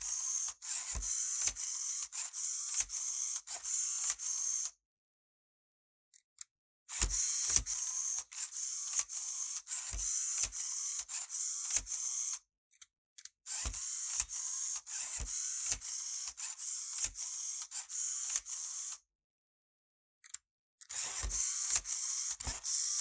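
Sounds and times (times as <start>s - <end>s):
plastic gears clicking and knocking: 0.0s - 4.6s, 6.2s - 19.0s, 20.2s - 23.0s
toy motor whirring: 0.0s - 4.8s, 6.9s - 12.5s, 13.2s - 19.1s, 20.2s - 23.0s.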